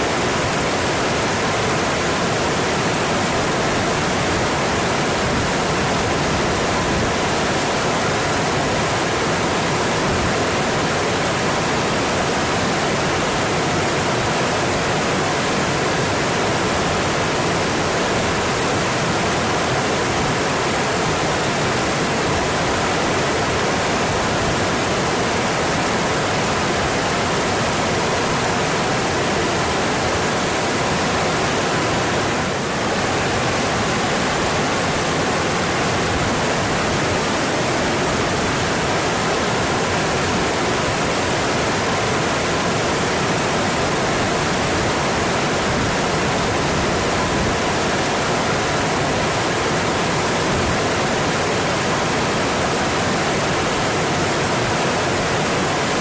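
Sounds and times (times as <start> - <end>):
mountain stream rushing over rocks: 0.0 - 56.0.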